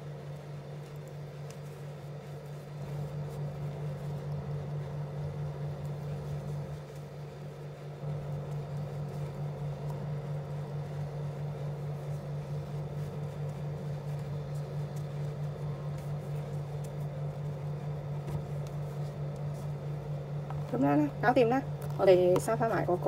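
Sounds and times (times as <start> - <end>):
machine hum with hiss: 0.0 - 23.0.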